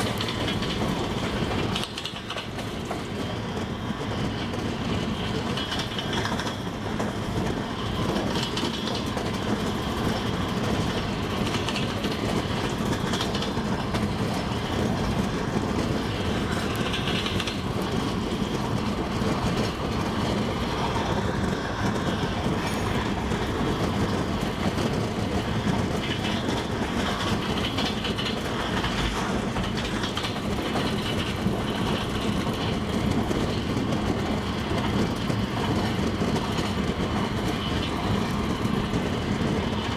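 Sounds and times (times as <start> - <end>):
train wheels rumbling on rails: 0.0 - 39.9
wheels clattering over rail joints: 0.0 - 39.9.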